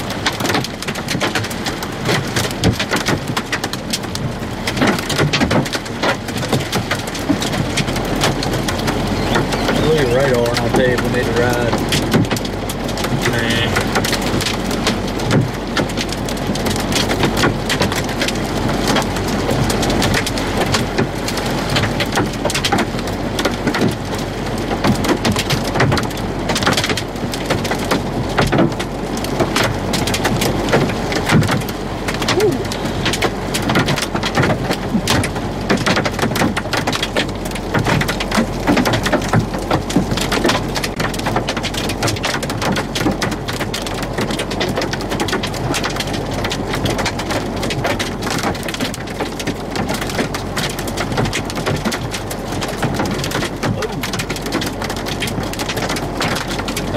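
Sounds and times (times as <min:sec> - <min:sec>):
heavy rain and hail: 0:00.0 - 0:56.9.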